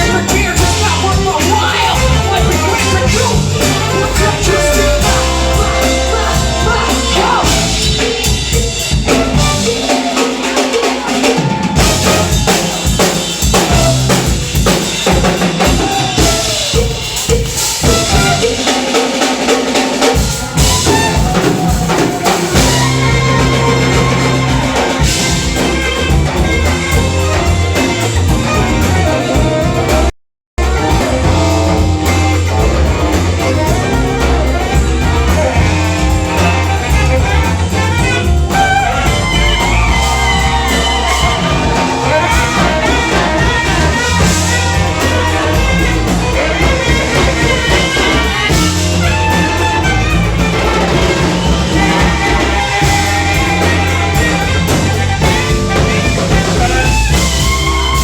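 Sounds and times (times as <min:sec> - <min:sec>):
horns: 0:00.0 - 0:58.0
live funk band playing: 0:00.0 - 0:58.0.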